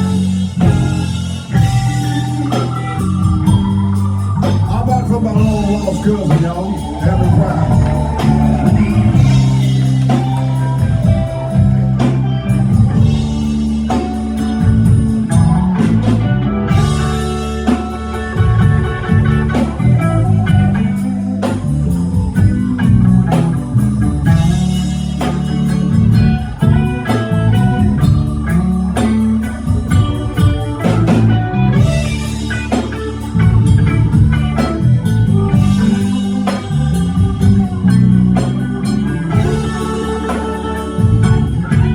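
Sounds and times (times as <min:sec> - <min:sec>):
bass: 0:00.0 - 0:41.9
drum kit: 0:00.0 - 0:41.9
electric guitar lines: 0:00.0 - 0:41.9.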